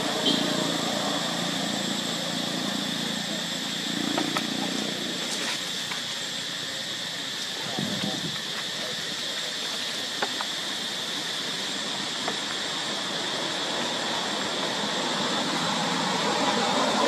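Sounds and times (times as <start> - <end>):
high-pitched outdoor drone: 0.0 - 17.0.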